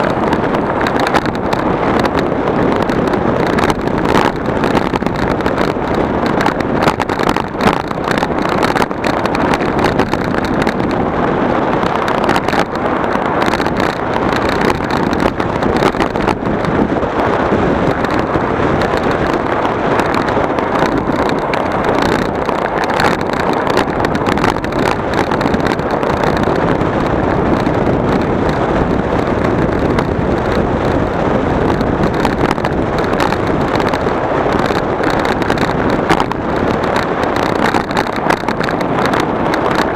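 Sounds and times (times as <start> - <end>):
small knocks and rattles: 0.0 - 11.0, 11.8 - 16.9, 17.8 - 31.0, 31.6 - 39.9
vehicle rumble: 0.0 - 39.9
wind buffeting microphone: 0.0 - 39.9.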